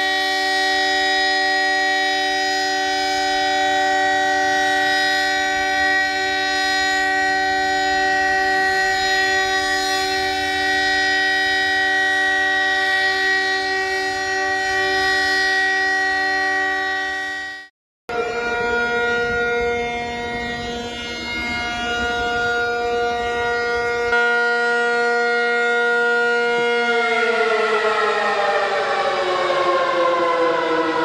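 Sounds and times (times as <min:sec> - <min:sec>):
emergency alert alarm tone: 0:00.0 - 0:31.0.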